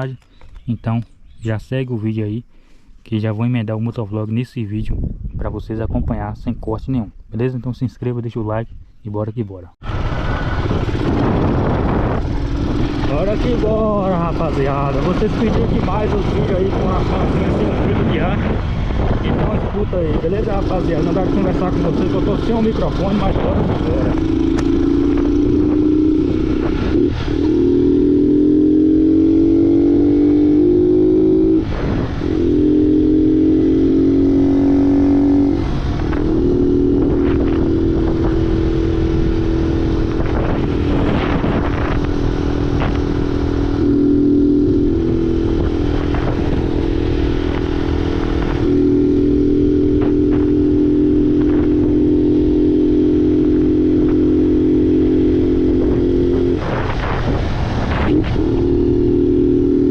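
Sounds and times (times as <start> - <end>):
loud motorcycle engine running: 9.8 - 59.9.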